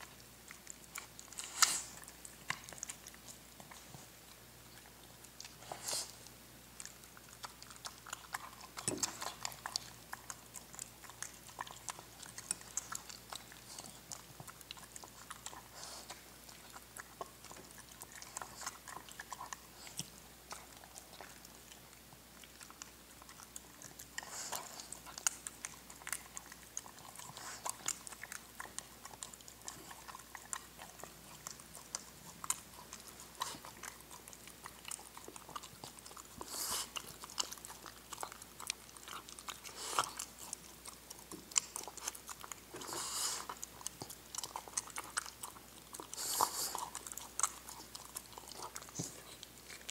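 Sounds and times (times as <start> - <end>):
dog chewing food wetly: 0.0 - 49.9.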